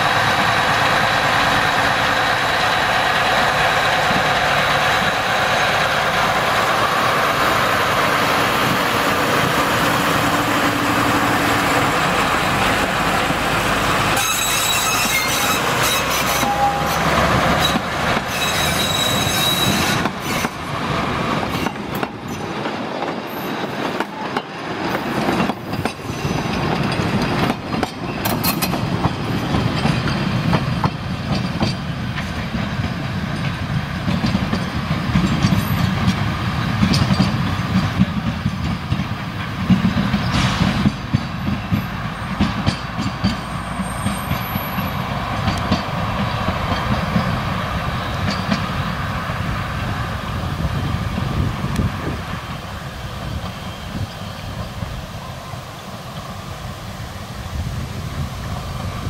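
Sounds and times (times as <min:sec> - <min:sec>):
train wheels clicking on rail joints: 0:00.0 - 0:56.9
train running rumble: 0:00.0 - 0:59.0.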